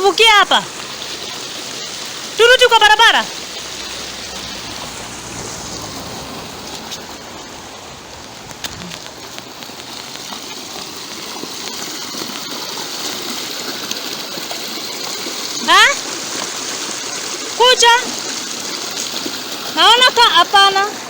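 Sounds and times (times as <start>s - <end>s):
rain falling: 0.0s - 21.0s
river water rushing: 0.0s - 21.0s.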